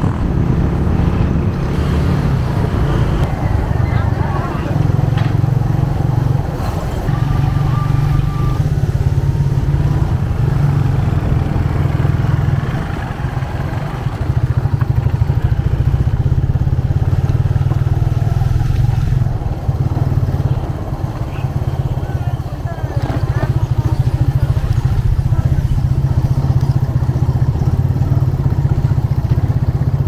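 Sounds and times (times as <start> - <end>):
motorcycle engine pulsing: 0.0 - 30.0.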